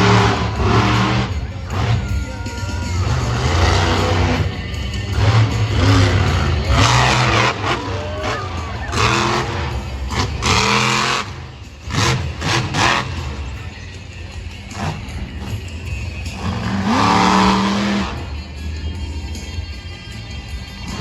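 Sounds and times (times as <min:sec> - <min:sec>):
loud arena music: 0:00.0 - 0:21.0
truck engine revving: 0:00.0 - 0:21.0.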